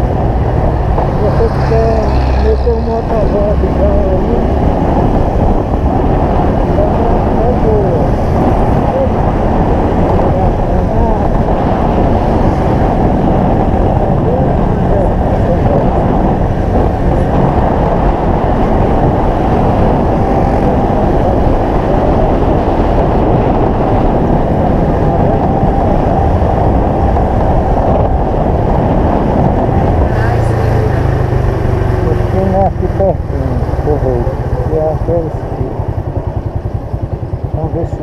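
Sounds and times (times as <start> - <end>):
motorcycle engine rumble: 0.0 - 38.0
wind buffeting: 0.0 - 38.0.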